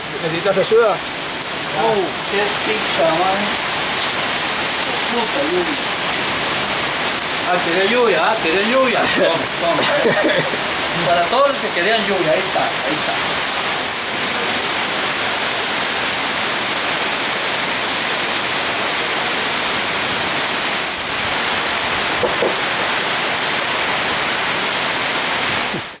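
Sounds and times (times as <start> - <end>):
heavy rain on metal roof: 0.0 - 26.0
water streaming off eaves: 0.0 - 26.0.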